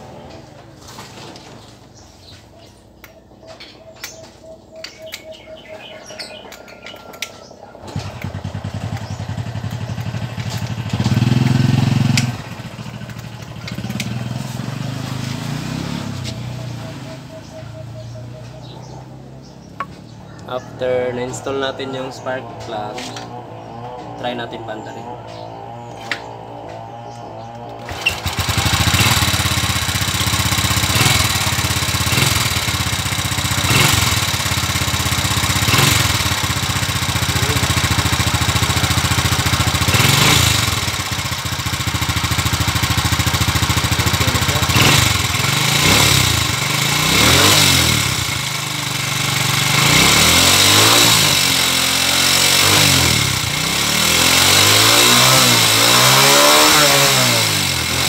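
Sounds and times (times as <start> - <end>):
motorcycle engine starting and revving: 0.0 - 3.0, 4.8 - 58.0.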